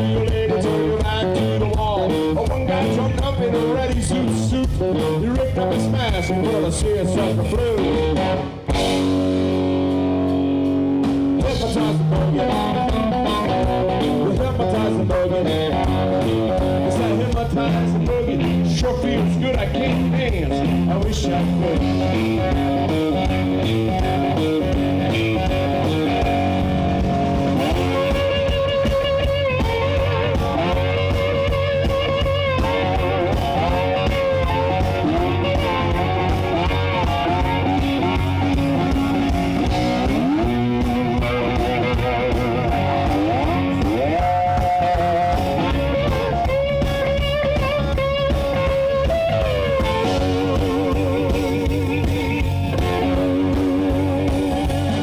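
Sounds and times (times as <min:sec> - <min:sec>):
bass and drum rhythm: 0:00.0 - 0:55.0
electric guitar lead with string bends: 0:00.0 - 0:55.0.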